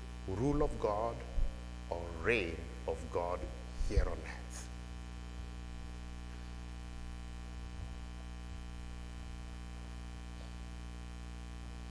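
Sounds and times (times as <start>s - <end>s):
electrical mains hum: 0.0s - 11.9s.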